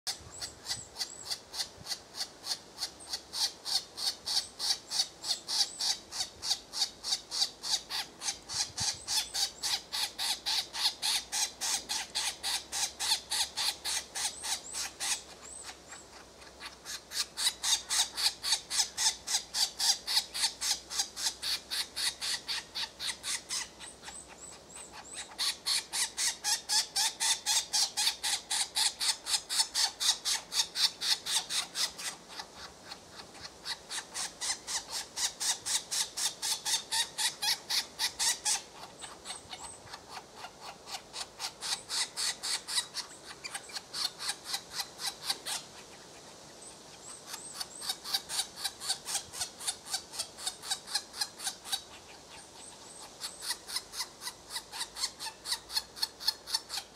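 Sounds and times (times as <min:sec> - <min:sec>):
woodpecker chick begging calls: 0:00.1 - 0:56.9.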